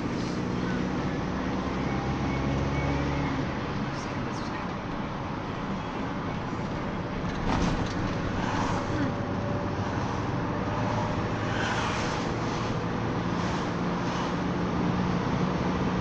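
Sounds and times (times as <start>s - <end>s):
minibus engine and road noise: 0.0s - 16.0s.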